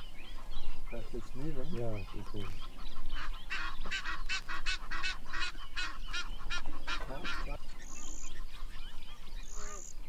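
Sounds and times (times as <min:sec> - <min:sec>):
bird harsh calls: 0:00.0 - 0:10.0.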